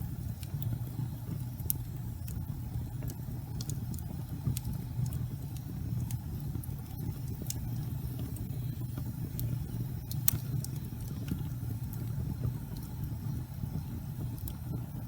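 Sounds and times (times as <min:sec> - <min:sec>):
fire crackling: 0:00.0 - 0:15.0
fireplace fire rumbling: 0:00.0 - 0:15.0.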